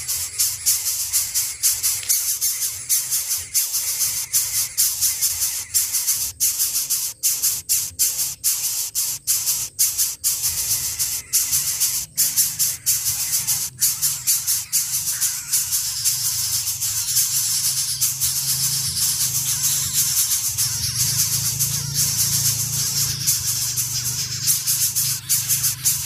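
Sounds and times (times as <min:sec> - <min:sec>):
nestlings begging with rattling hiss: 0:00.0 - 0:26.0.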